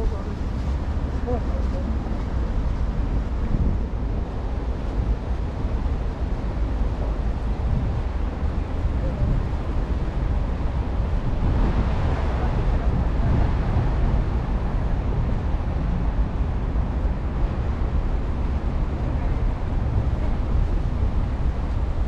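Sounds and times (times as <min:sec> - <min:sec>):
traffic rumble: 0:00.0 - 0:22.0
wind on microphone: 0:00.0 - 0:22.0.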